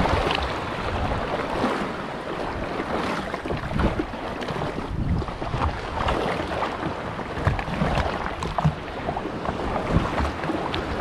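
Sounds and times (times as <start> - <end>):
water splashing against hull: 0.0 - 11.0
wind noise on microphone: 0.0 - 11.0.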